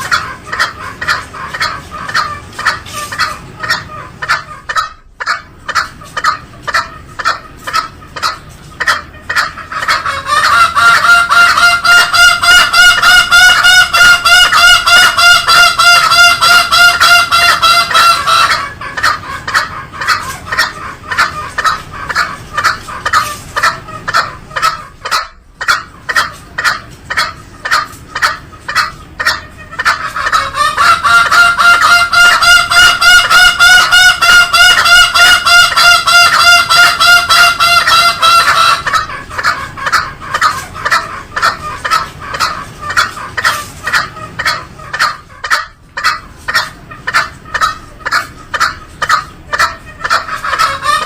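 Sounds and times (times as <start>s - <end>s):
junglefowl calls: 0.0s - 51.0s.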